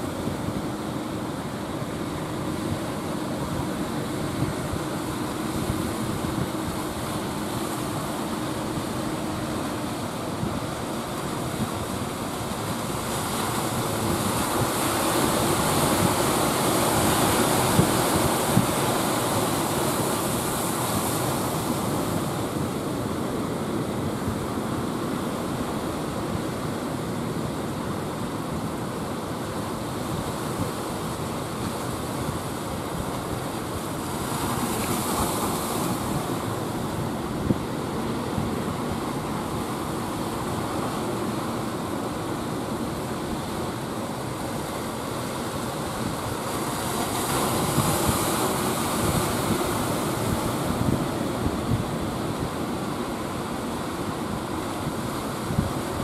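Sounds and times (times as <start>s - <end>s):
surf breaking on beach: 0.0s - 56.0s
wind on microphone: 0.0s - 56.0s.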